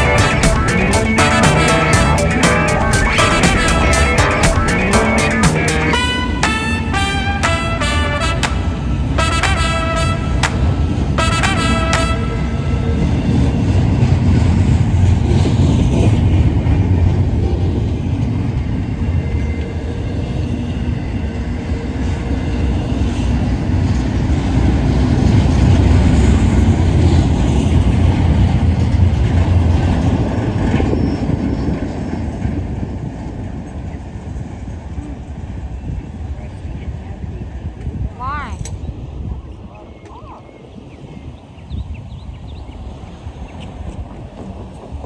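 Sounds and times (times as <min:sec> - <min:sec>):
freight train rumbling past: 0:00.0 - 0:37.8.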